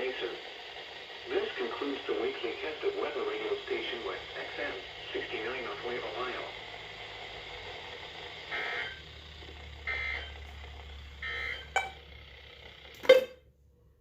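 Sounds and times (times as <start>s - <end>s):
low hum: 0.0s - 13.2s.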